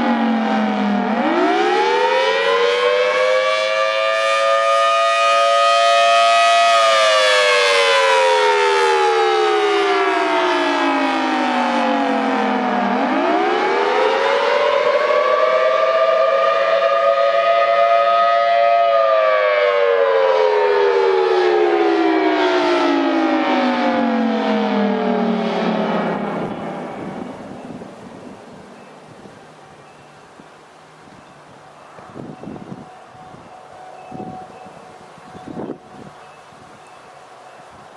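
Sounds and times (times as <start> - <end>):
tornado siren wailing: 0.0 - 37.9.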